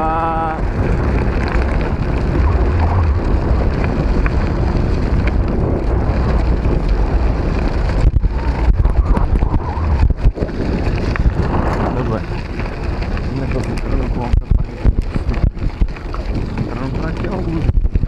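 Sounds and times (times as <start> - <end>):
tyres rolling on gravel: 0.0 - 18.0
wind buffeting microphone: 0.0 - 18.0.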